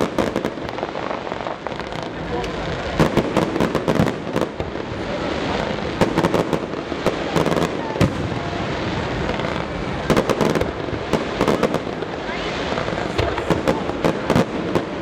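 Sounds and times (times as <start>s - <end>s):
crackling rumble: 0.0s - 15.0s
fireworks cracks and bangs: 0.0s - 15.0s.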